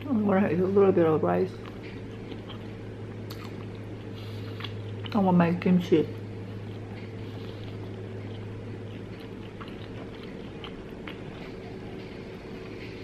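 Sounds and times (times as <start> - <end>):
steady low hum: 0.0 - 13.0
person chewing: 1.5 - 5.2, 6.1 - 13.0.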